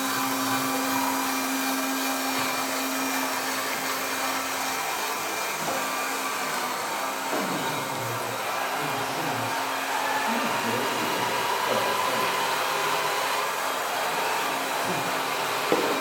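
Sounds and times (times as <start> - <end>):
model machine motors whirring: 0.0 - 16.0.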